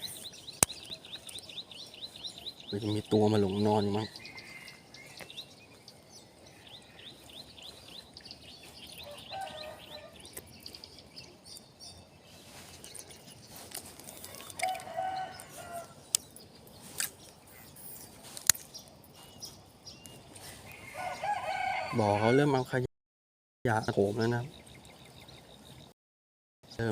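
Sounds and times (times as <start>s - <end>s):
high bird chirps: 0.0s - 22.0s
lower multi-tone bird call: 0.0s - 22.7s.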